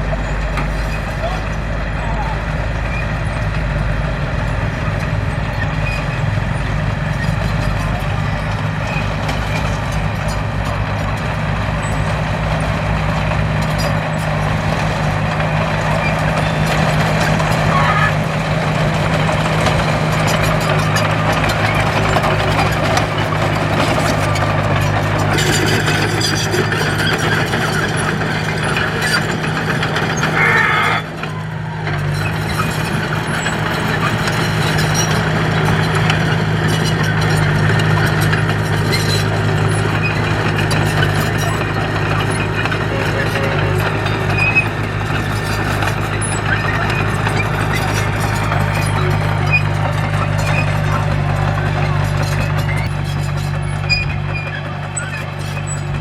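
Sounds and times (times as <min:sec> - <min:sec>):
heavy machine engine running: 0:00.0 - 0:56.0
clattering and scraping: 0:07.2 - 0:56.0.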